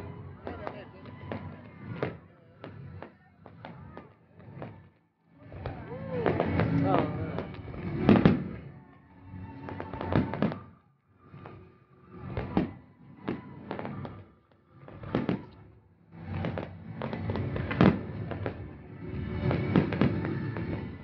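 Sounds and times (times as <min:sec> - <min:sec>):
fireworks bangs with rumbling echo: 0:00.0 - 0:08.8, 0:09.5 - 0:21.0.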